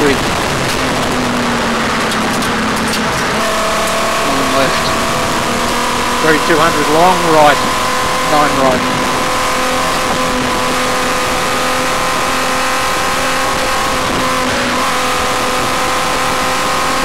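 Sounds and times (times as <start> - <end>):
car engine running: 0.0 - 17.0
rushing road noise: 0.0 - 17.0.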